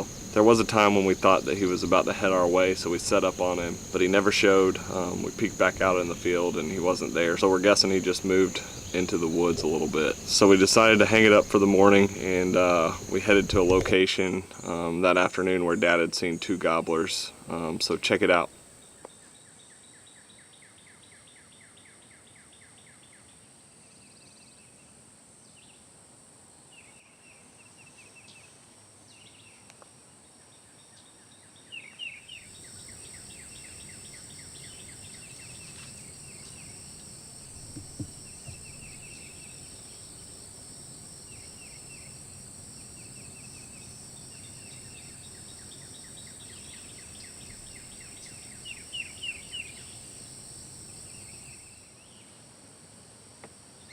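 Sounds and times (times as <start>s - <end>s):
songbirds chirping and trilling: 0.0s - 25.9s, 26.7s - 52.4s
insects droning: 0.0s - 53.9s.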